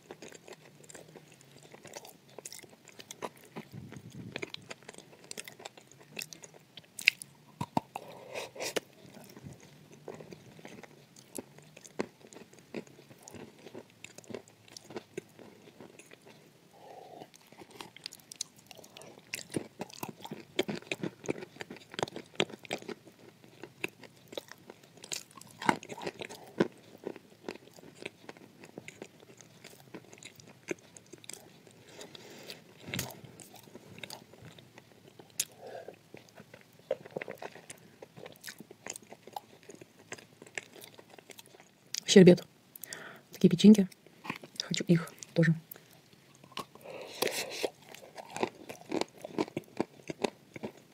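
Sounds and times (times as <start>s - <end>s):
dry crunching chewing: 0.0s - 42.1s, 43.9s - 50.9s.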